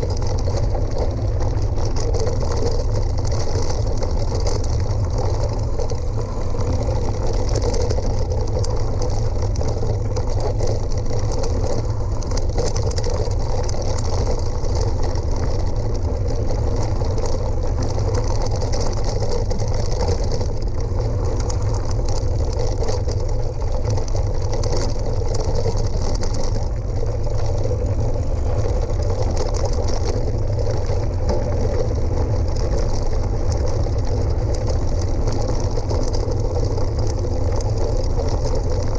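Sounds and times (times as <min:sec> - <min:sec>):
vehicle rumbling on gravel track: 0:00.0 - 0:38.9.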